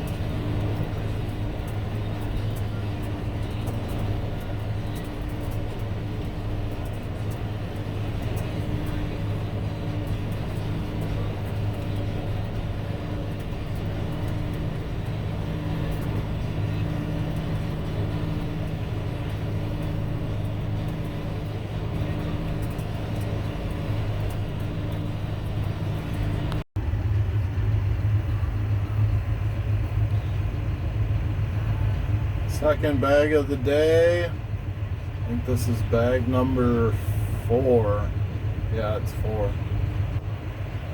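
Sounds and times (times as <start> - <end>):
tractor engine humming: 0.0 - 40.9.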